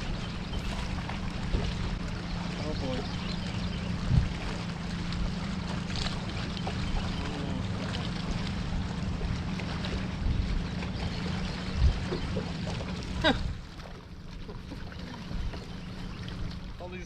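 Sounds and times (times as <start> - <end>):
boat motor humming: 0.0 - 17.0
wind and water noise: 0.0 - 17.0.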